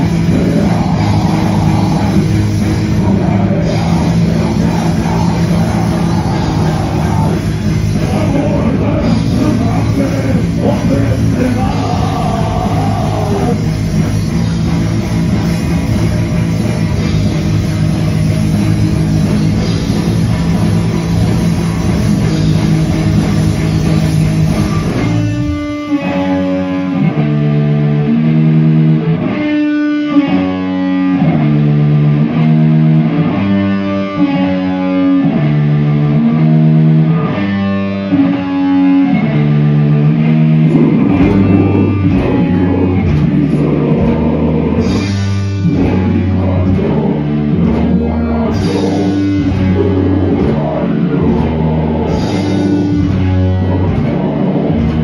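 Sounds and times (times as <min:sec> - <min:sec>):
distorted electric guitar riff: 0:00.0 - 0:55.0
extreme metal band playing: 0:00.0 - 0:55.0.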